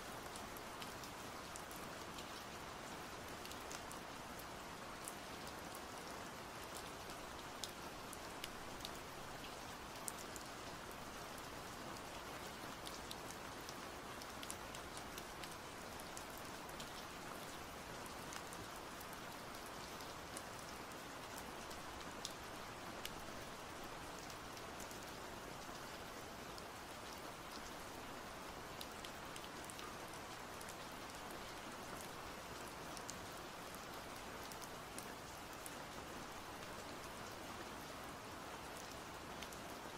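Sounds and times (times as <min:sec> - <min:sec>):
steady rain: 0:00.0 - 0:39.9
raindrops ticking close by: 0:00.2 - 0:37.5.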